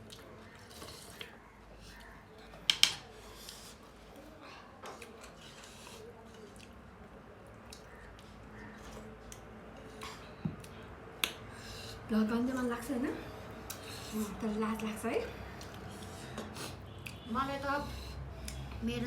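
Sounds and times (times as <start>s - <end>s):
chewing noises: 0.0s - 11.5s, 13.4s - 17.3s.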